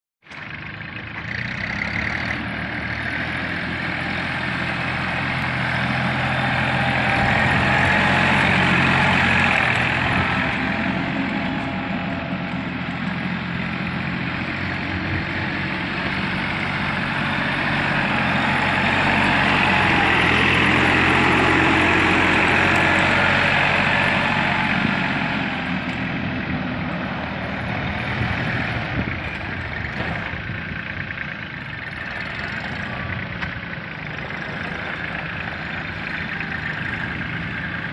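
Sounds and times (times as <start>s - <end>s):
tractor diesel engine running: 0.2s - 37.9s.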